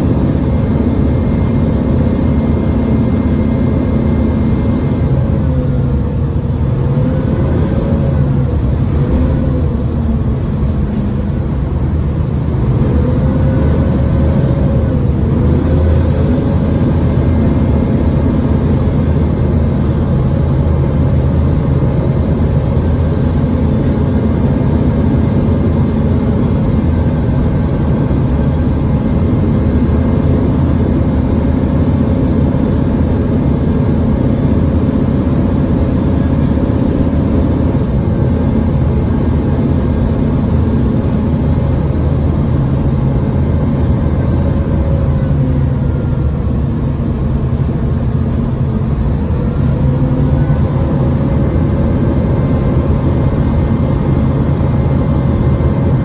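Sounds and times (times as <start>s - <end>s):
bus engine drone: 0.0s - 56.0s
road noise: 0.0s - 56.0s.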